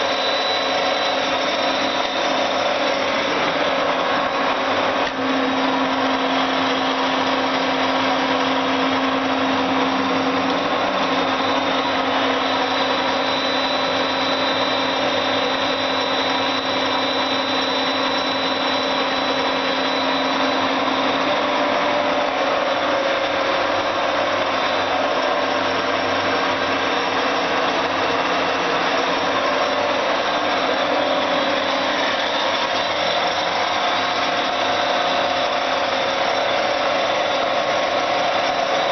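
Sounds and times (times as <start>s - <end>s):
milling machine whirring: 0.0s - 38.9s.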